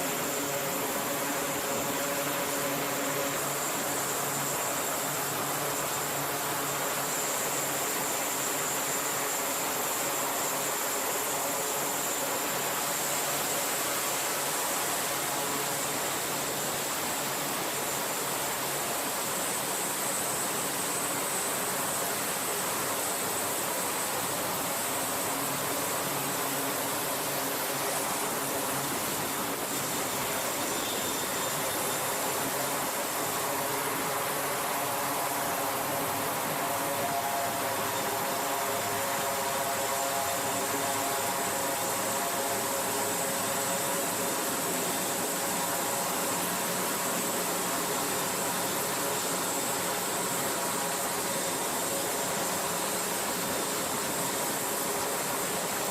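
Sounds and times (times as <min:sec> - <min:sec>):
high turbine whine: 0:00.0 - 0:55.9.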